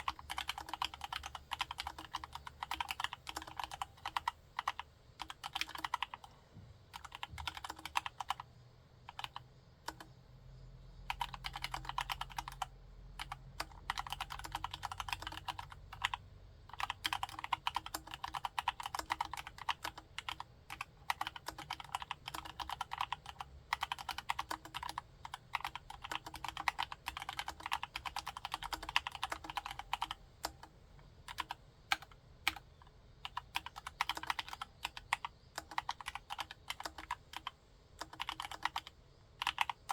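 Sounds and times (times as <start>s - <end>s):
keyboard typing: 0.0s - 6.3s, 6.9s - 8.5s, 9.1s - 10.2s, 11.1s - 39.9s.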